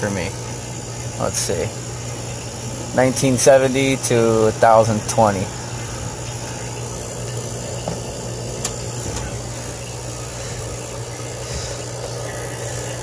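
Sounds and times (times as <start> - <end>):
vacuum pump humming and hissing: 0.0 - 13.0.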